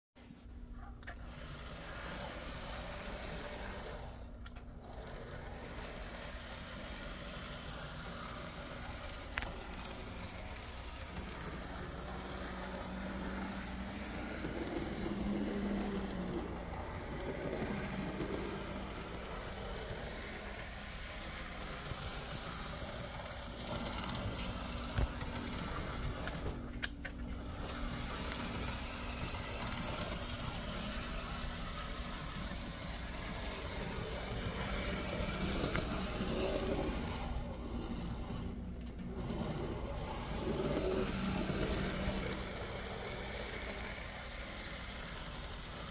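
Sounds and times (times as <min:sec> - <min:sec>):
model train motor whirring: 0:01.0 - 0:45.9.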